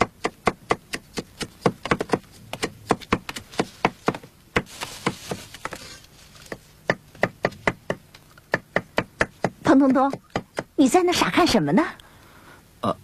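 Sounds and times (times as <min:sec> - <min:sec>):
knife chopping on wooden board: 0:00.0 - 0:10.7.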